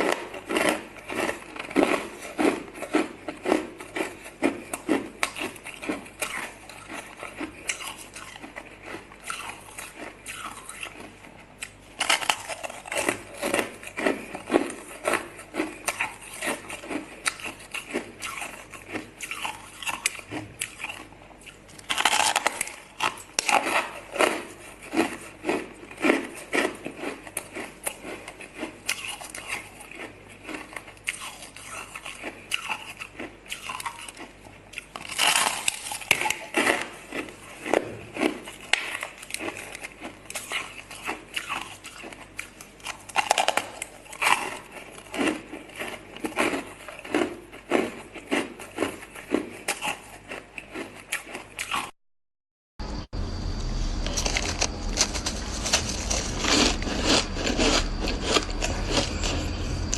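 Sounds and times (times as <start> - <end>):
ice being chewed: 0.0 - 51.9, 54.0 - 59.9.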